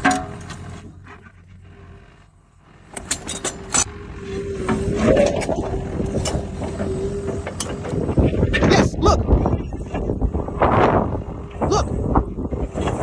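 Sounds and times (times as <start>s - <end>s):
excavator clicks and rattles: 0.0s - 2.0s, 2.7s - 11.5s
excavator whine with gear rattling: 0.0s - 13.0s.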